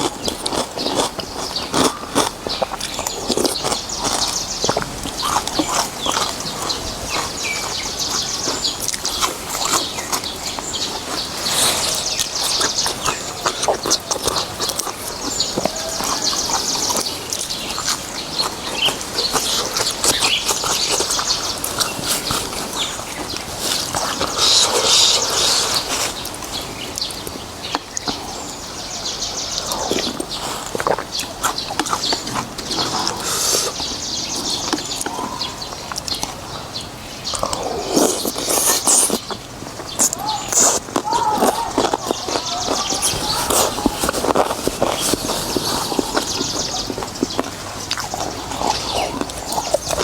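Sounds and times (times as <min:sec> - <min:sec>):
wet chewing and slurping: 0:00.0 - 0:28.6, 0:29.2 - 0:50.0.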